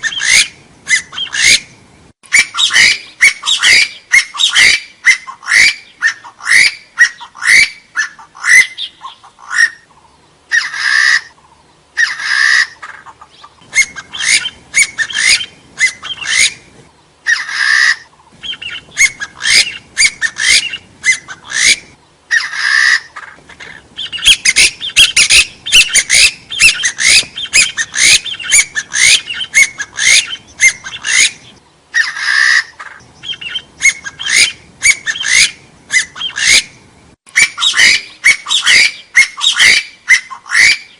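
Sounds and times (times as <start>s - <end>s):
partridges calling: 0.0s - 40.9s.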